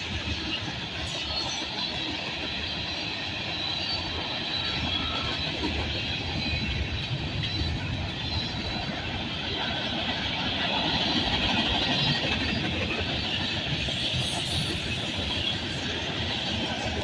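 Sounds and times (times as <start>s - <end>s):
freight train rumbling on rails: 0.0s - 17.0s.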